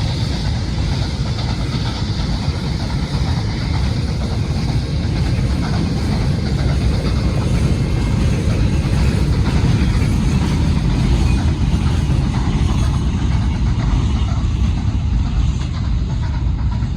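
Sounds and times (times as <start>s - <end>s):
steam train rumbling past: 0.0s - 16.9s.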